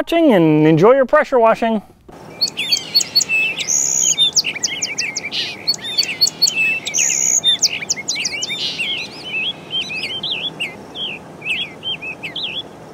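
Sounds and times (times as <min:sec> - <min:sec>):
birds chirping: 0:02.2 - 0:12.9.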